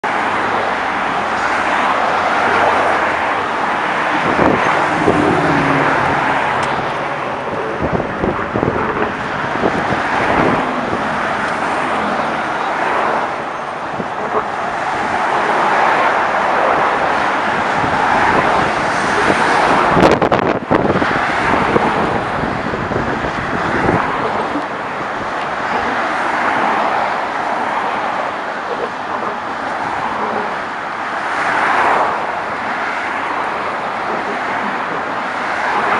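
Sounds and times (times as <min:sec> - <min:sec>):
traffic passing on roadway: 0:00.0 - 0:35.9.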